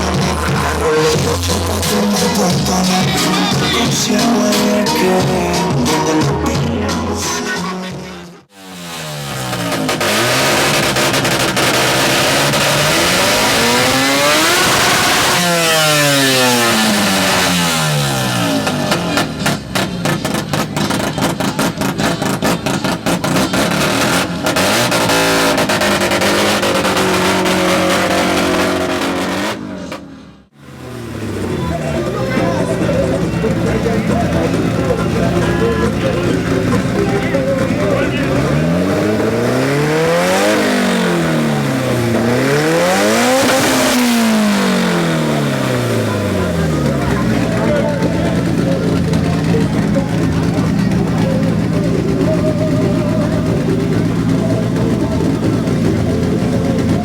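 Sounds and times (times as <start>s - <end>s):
car engine revving hard: 8.5s - 57.0s.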